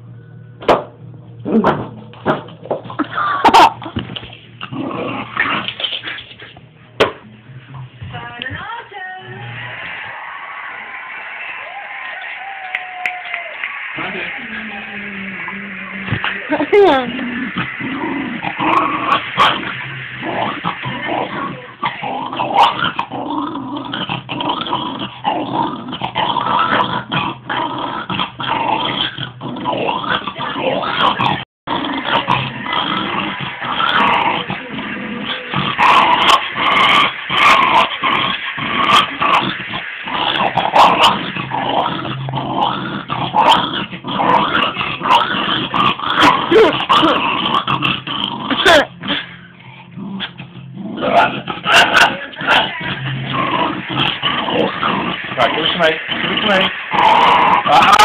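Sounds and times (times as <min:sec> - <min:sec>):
dog growling: 0:03.1 - 0:06.6, 0:14.0 - 0:58.0.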